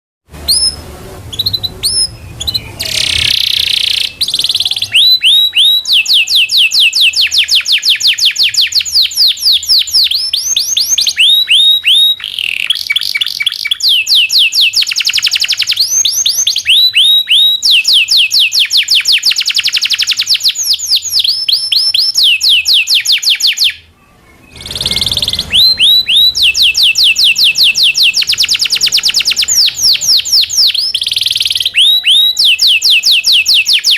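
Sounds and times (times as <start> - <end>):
canary singing trills: 0.4 - 33.9.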